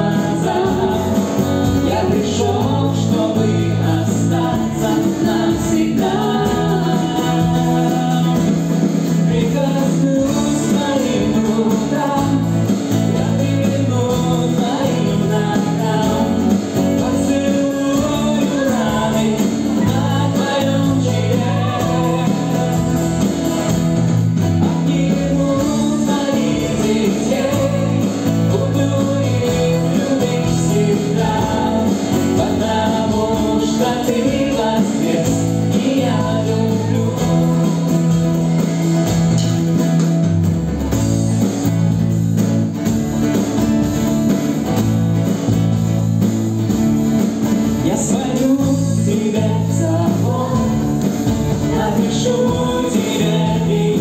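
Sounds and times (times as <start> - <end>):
man and woman singing: 0.0 - 39.0, 47.7 - 54.0
bass notes: 0.0 - 54.0
drums: 0.0 - 54.0
electric guitar: 0.0 - 54.0
strummed acoustic guitar: 0.0 - 54.0.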